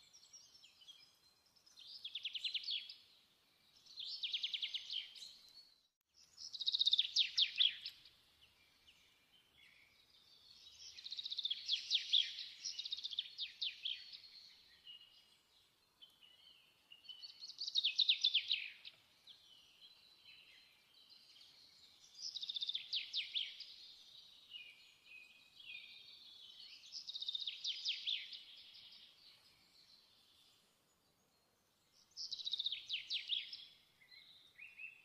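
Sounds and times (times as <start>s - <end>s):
soft bird twittering: 0.0s - 35.0s.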